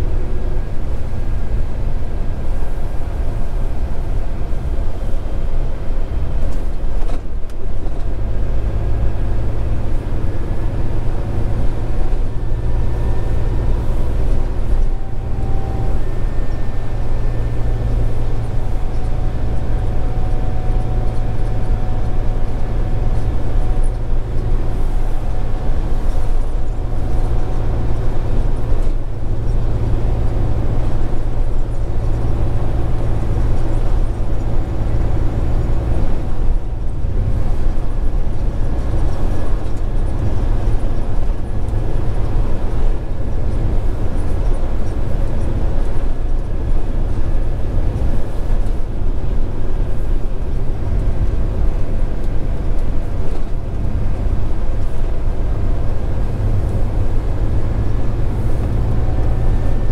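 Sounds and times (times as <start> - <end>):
road noise: 0.0 - 59.9
truck diesel engine droning: 0.0 - 59.9.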